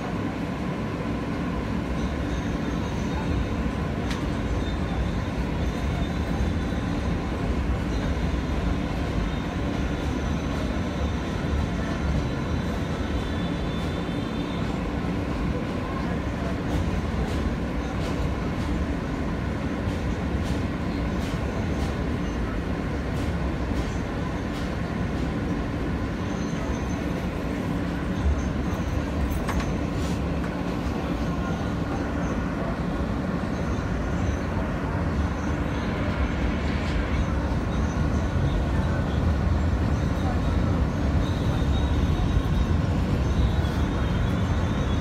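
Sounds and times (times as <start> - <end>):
train wheels rumbling on track: 0.0 - 45.0.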